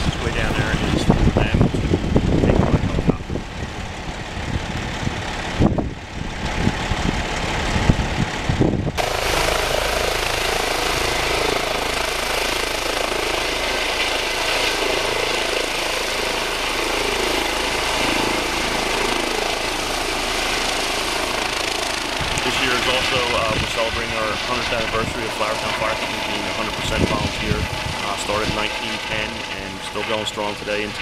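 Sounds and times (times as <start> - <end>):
helicopter rotor and engine: 0.0 - 31.0.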